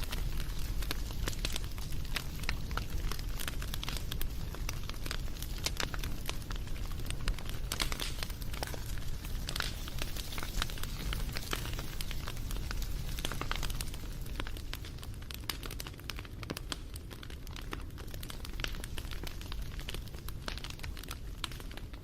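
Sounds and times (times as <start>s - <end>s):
low rumble and hiss: 0.0s - 22.0s
wood fire crackling and popping: 0.0s - 22.0s.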